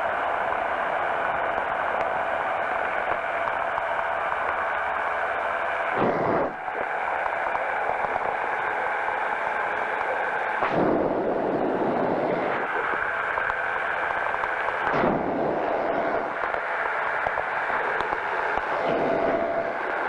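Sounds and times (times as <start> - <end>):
engine and propeller droning: 0.0 - 20.0.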